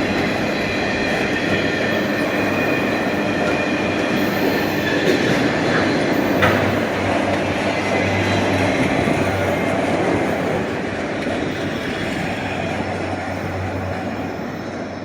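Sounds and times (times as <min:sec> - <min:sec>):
freight cars rumbling on rails: 0:00.0 - 0:15.0.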